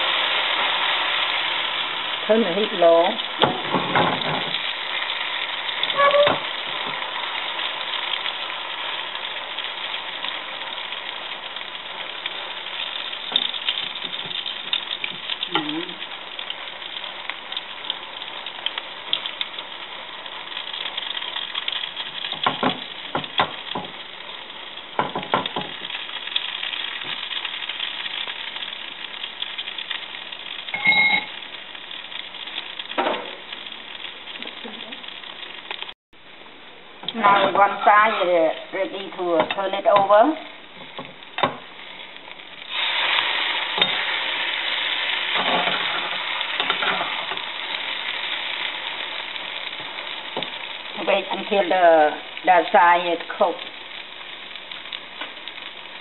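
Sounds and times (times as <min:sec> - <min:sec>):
omelette sizzling in oil: 0:00.0 - 0:56.0.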